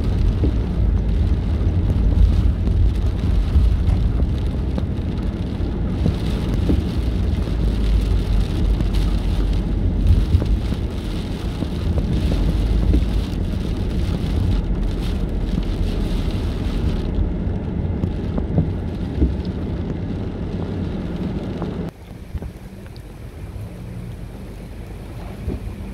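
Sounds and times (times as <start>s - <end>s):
car road rumble: 0.0s - 25.9s.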